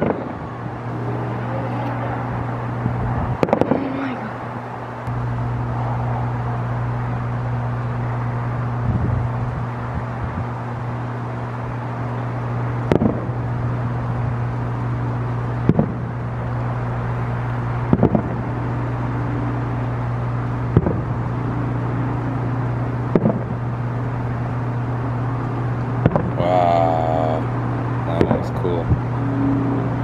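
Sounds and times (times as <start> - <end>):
distant fireworks booming: 0.0 - 10.6, 12.1 - 25.0, 25.9 - 30.0
steady low hum: 0.0 - 30.0.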